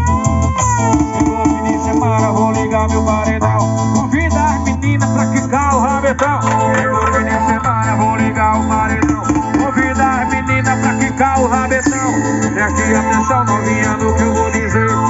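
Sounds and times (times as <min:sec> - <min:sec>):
music through car sound system: 0:00.0 - 0:15.0.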